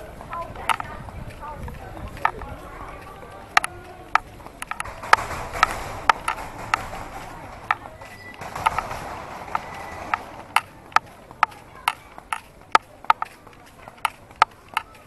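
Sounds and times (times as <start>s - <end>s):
hollow footsteps on a path: 0.0s - 15.0s.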